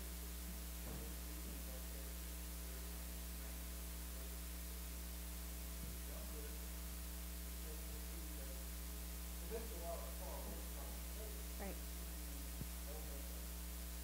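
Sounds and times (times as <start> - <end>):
electrical mains hum: 0.0 - 14.0
low hiss: 0.0 - 14.0.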